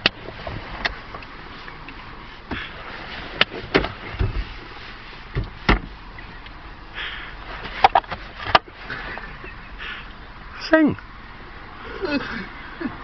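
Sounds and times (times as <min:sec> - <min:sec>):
car interior hum: 0:00.0 - 0:13.0.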